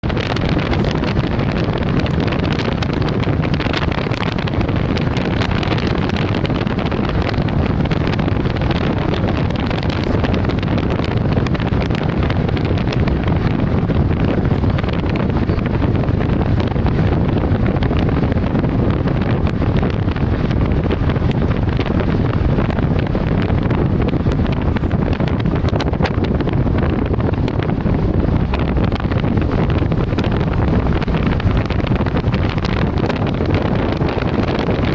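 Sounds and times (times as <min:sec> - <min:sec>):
rain: 0:00.0 - 0:34.9
strong wind: 0:00.0 - 0:34.9.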